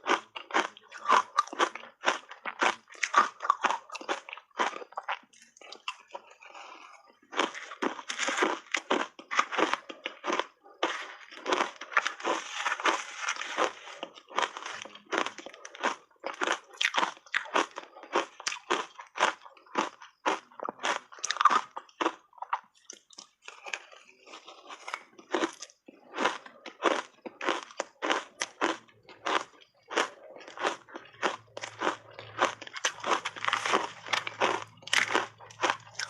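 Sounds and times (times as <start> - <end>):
crunching and chewing shaved ice: 0.0 - 36.0.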